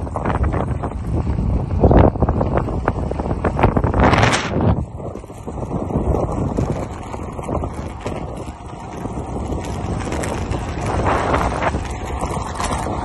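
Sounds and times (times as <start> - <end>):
bicycle rumbling over road: 0.0 - 13.0
wind buffeting microphone: 0.0 - 13.0.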